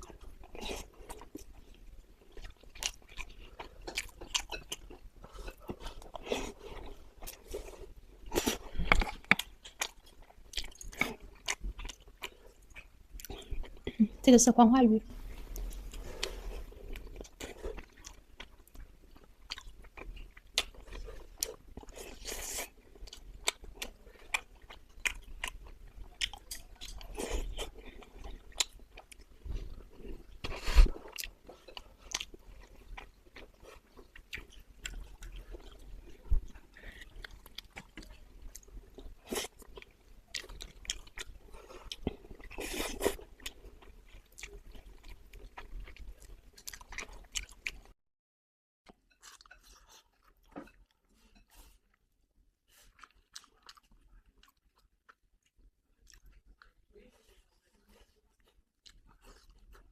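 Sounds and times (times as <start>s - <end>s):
person chewing food: 0.0s - 14.1s, 15.3s - 47.9s, 48.9s - 59.9s.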